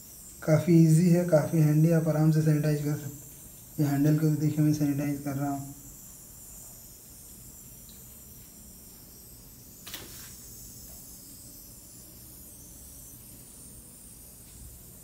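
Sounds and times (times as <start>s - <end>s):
mist sprayer hissing: 0.0s - 15.0s.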